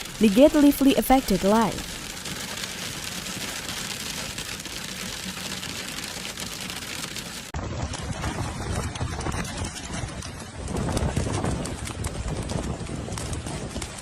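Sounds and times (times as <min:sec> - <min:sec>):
hail and rain pelting: 0:00.0 - 0:14.0.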